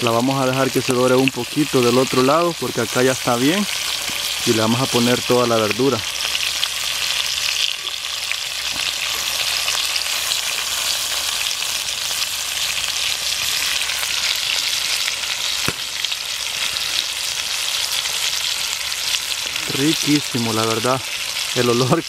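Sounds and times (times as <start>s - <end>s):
pork sizzling in hot oil: 0.0s - 22.0s.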